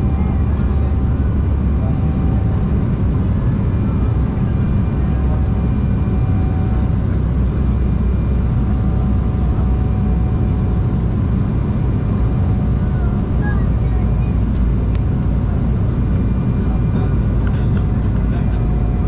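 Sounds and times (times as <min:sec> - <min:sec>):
jet airliner cabin drone: 0:00.0 - 0:19.0.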